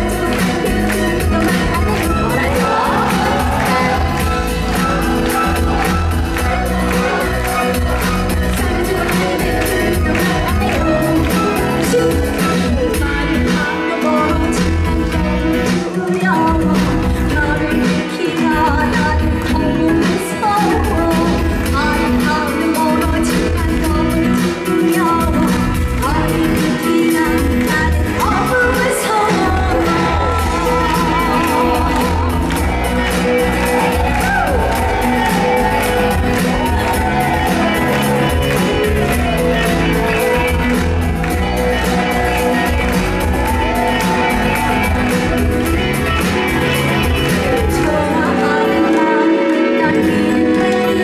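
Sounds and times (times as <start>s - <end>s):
loud band accompaniment: 0.0s - 51.0s
woman singing pop song: 0.0s - 51.0s.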